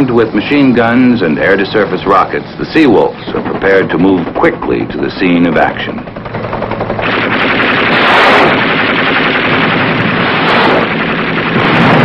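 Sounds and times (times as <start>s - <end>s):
machine guns firing: 0.0s - 12.0s.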